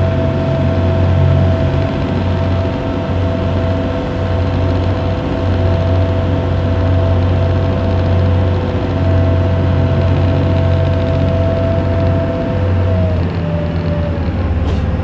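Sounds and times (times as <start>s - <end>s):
boat engine hum and whine: 0.0s - 15.0s
boat wake churning: 0.0s - 15.0s.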